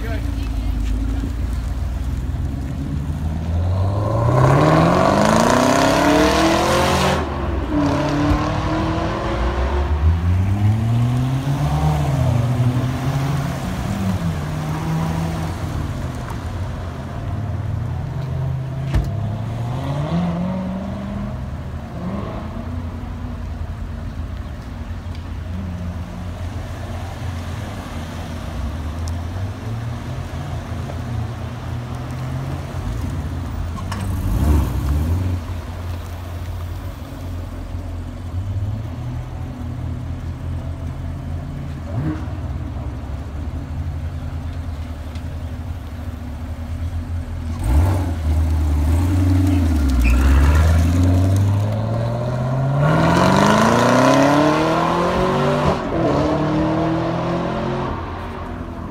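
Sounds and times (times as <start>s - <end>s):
car engines accelerating hard: 0.0s - 58.9s.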